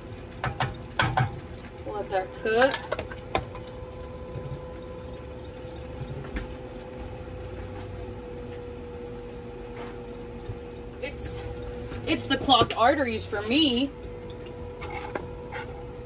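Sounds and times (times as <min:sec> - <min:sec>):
chicken frying in hot oil: 0:00.0 - 0:16.0
steady hum: 0:00.0 - 0:16.0.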